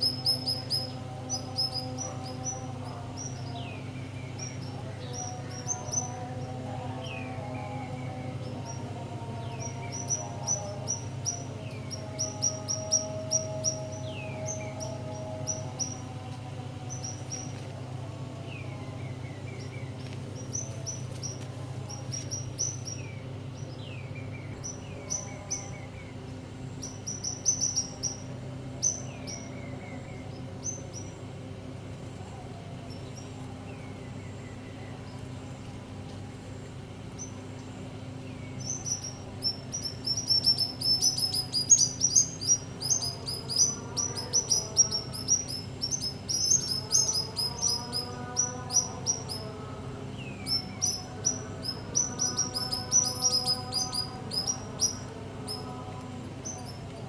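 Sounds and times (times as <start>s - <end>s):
birds chirping: 0.0s - 35.6s, 36.7s - 57.0s
steady low hum: 0.0s - 57.0s.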